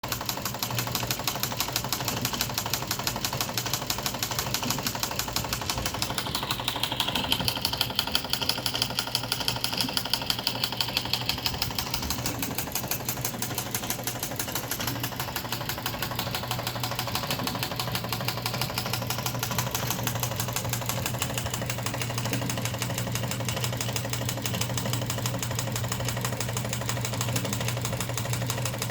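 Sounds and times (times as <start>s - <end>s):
machine rhythmic clatter: 0.0s - 28.9s.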